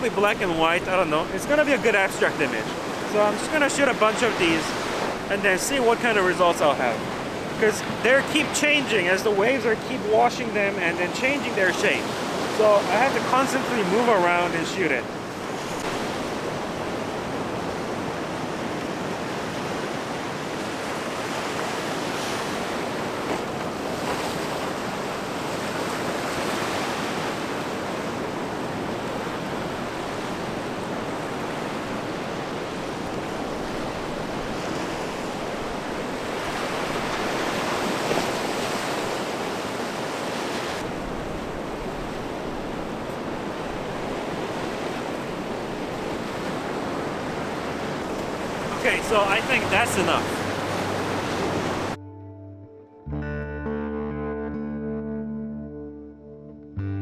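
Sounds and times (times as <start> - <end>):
ocean waves breaking: 0.0 - 52.0.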